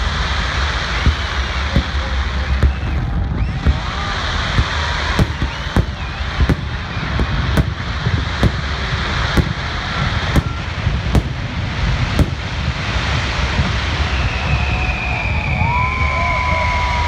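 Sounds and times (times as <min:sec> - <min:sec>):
firework shells bursting: 0:00.0 - 0:14.5
low rumble: 0:00.0 - 0:17.0.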